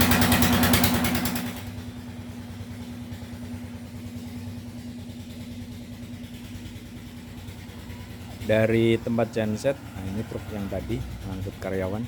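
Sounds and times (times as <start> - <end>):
diesel engine clatter: 0.0 - 12.0
generator engine running: 0.0 - 12.0.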